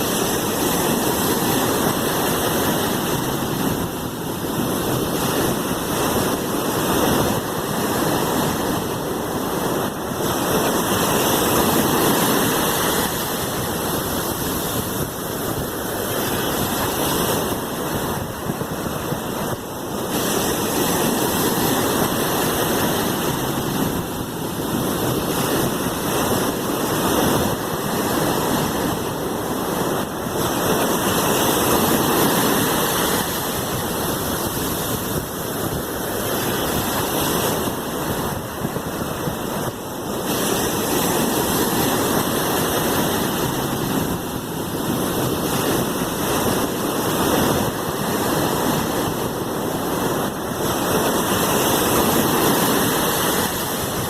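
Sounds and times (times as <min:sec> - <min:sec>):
sea waves washing: 0:00.0 - 0:54.0.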